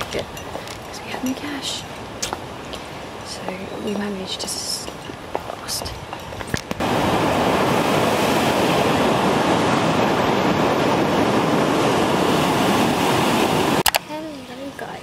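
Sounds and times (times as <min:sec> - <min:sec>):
ocean surf rushing: 0:00.0 - 0:13.9.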